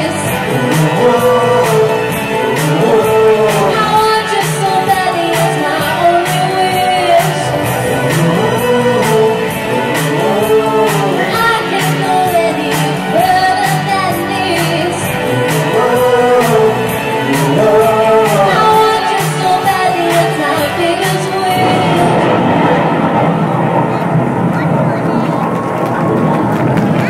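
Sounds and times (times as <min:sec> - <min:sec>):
pop music with singing: 0:00.0 - 0:23.8.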